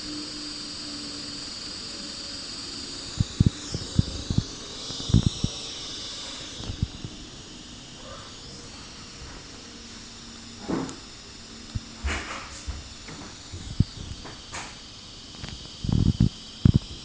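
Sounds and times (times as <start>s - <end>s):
speaker hiss with whine: 0.0s - 17.0s.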